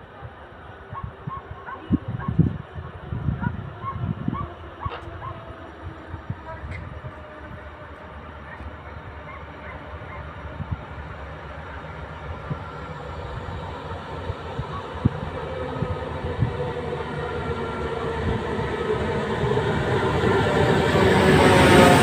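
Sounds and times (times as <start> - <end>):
train hum: 0.0 - 22.0
train rumbling: 0.0 - 22.0.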